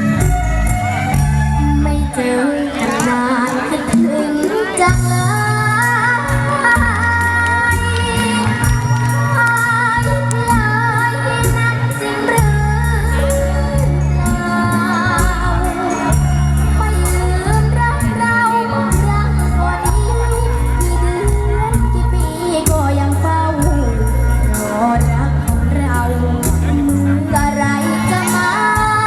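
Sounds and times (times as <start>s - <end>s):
amplified backing music: 0.0s - 29.0s
girl singing into a microphone: 1.8s - 29.0s.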